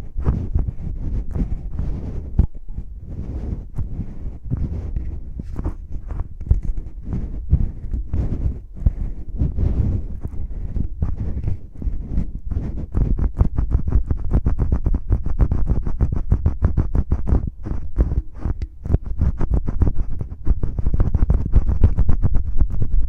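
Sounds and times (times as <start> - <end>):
fingertips scratching on microphone: 0.0 - 23.0.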